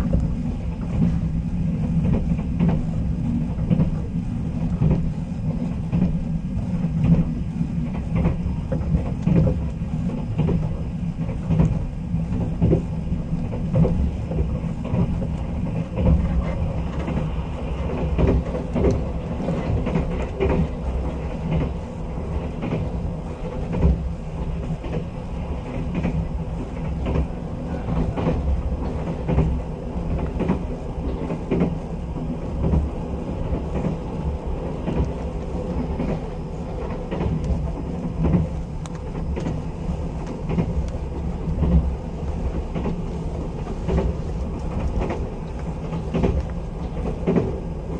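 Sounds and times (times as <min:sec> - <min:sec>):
train interior rumble: 0:00.0 - 0:47.9
wheels clacking over rail joints: 0:00.0 - 0:47.9.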